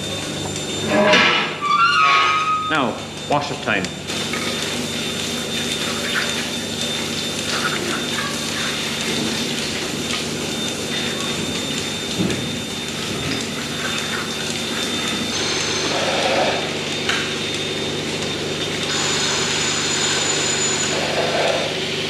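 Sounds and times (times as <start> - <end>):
machine hum: 0.0 - 22.0
water gushing from a hose: 4.1 - 21.8.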